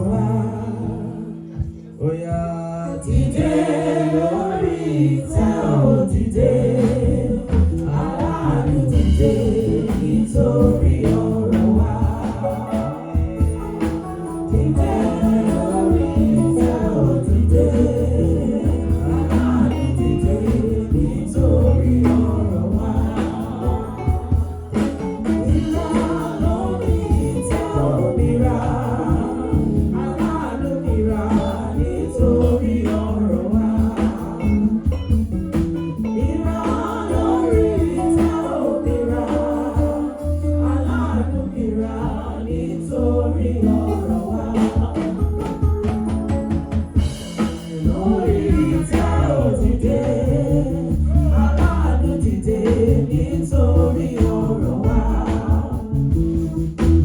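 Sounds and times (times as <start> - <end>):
bass line: 0.0 - 57.0
group singing gospel song: 0.0 - 57.0
percussion: 3.2 - 57.0.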